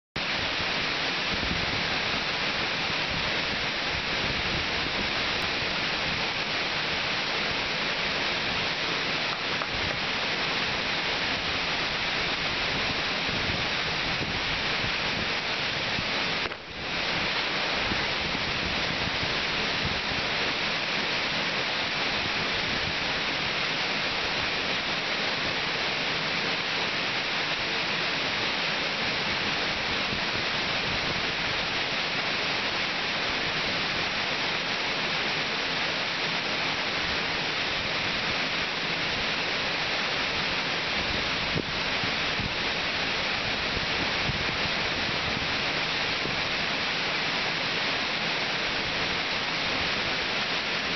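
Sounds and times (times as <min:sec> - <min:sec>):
waterfall rushing: 0:00.2 - 0:50.9.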